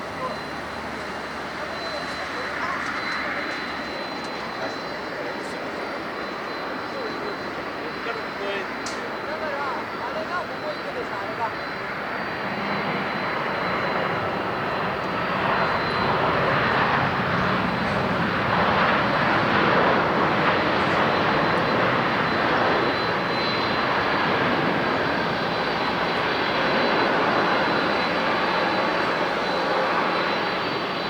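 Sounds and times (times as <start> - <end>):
faint high whine: 0.0 - 31.0
jet airliner roar: 0.0 - 31.0.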